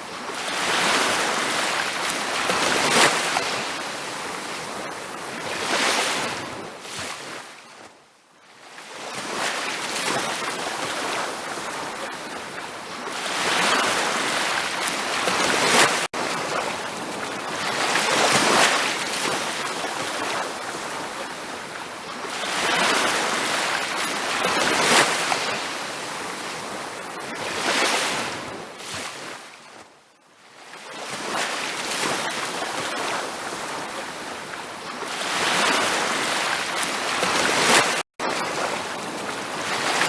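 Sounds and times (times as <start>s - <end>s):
ocean waves breaking: 0.0s - 7.6s, 8.8s - 29.8s, 30.6s - 40.0s.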